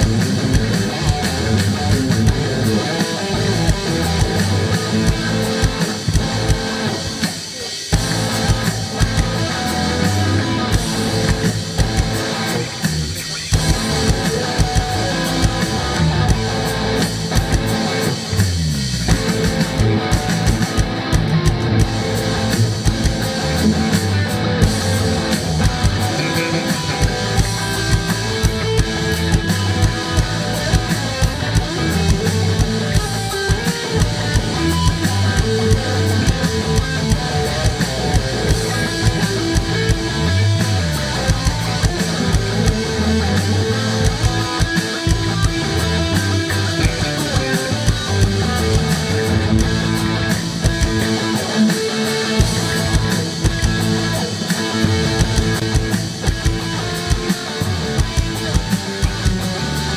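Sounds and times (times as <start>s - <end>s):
electric guitar: 0.0s - 59.9s
rock band playing: 0.0s - 59.9s.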